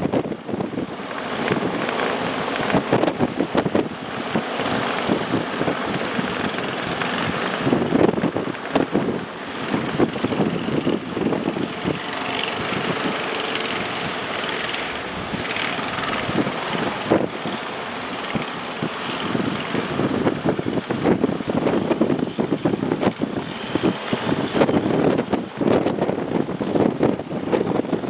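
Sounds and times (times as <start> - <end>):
boat engine droning: 0.0 - 28.0
surf: 0.0 - 28.0
wind buffeting microphone: 0.0 - 28.0.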